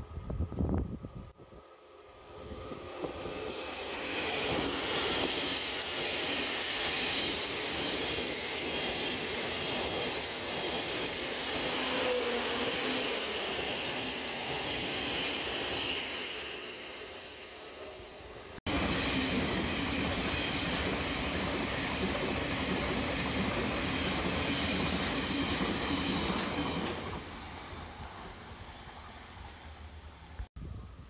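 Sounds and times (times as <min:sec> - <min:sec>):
train wheels rushing on rail: 0:01.7 - 0:30.5.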